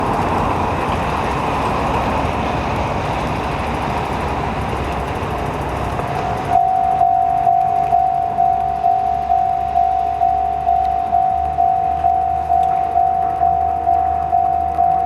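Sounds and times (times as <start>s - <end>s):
level-crossing warning bell: 0.0s - 15.0s
road traffic: 0.0s - 15.0s.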